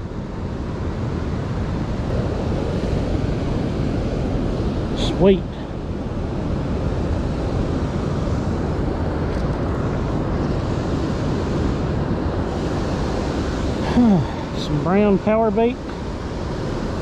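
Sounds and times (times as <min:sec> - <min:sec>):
wind buffeting microphone: 0:00.0 - 0:17.0
river water spilling over dam: 0:00.1 - 0:17.0.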